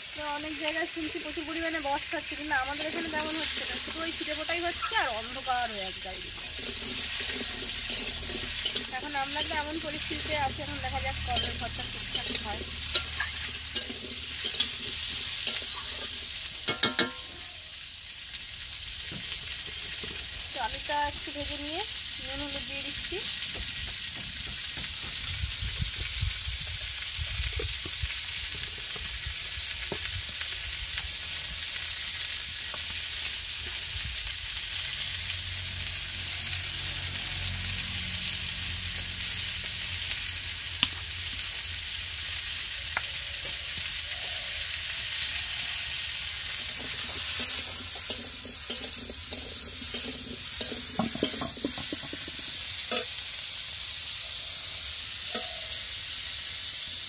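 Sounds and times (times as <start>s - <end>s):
onion sizzling in hot oil: 0.0s - 57.0s.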